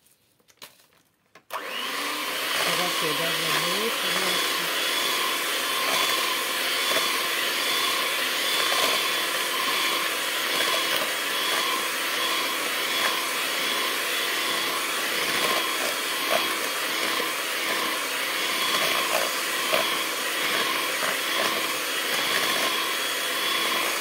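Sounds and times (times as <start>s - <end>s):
electric hand mixer whisking: 1.5s - 24.0s.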